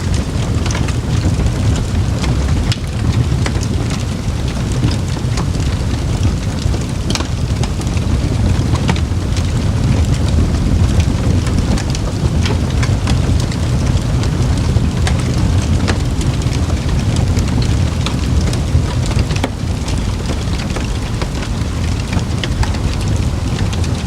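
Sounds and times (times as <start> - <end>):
campfire flames rumbling: 0.0 - 24.0
wood crackling and popping: 0.0 - 24.0.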